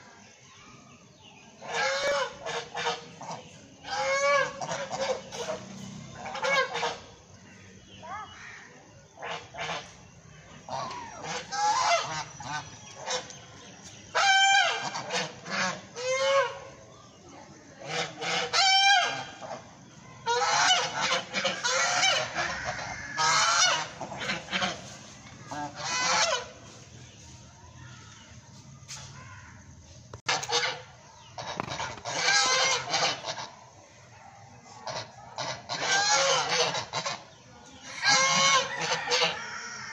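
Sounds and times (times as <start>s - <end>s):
geese honking: 1.6s - 28.2s, 30.2s - 33.9s, 34.8s - 39.9s.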